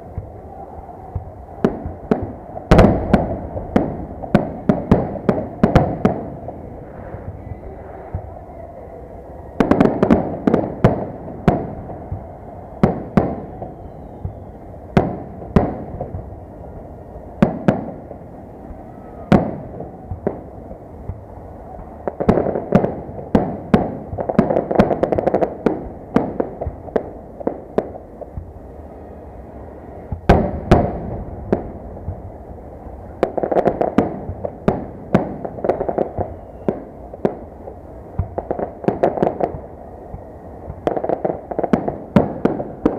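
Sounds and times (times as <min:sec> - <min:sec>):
fireworks bangs: 0:00.0 - 0:42.9
rapid volleys of fireworks bangs: 0:00.0 - 0:42.9.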